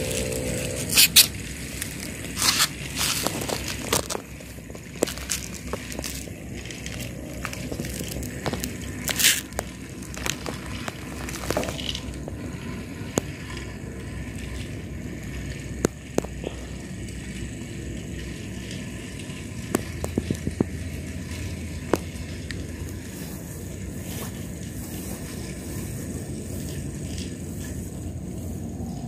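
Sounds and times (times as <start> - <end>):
toy train rolling rattle: 0.0 - 29.0
toy train wagons clicking: 0.0 - 29.0.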